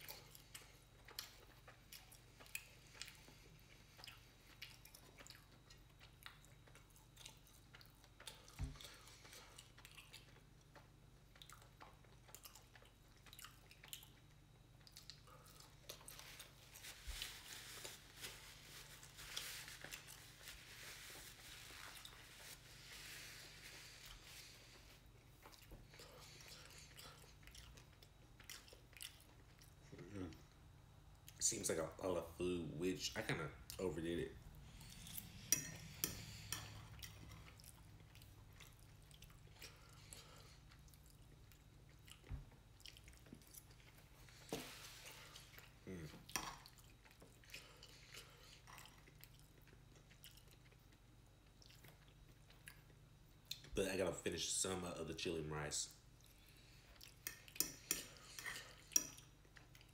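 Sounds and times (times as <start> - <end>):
person chewing crunchy food: 0.0 - 31.4, 33.6 - 53.7, 56.1 - 59.9.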